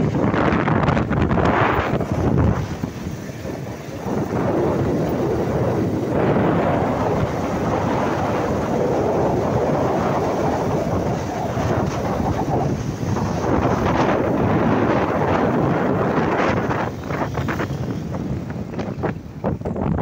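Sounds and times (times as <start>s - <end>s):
motorbike road noise: 0.0s - 20.0s
wind rushing over microphone: 0.0s - 20.0s.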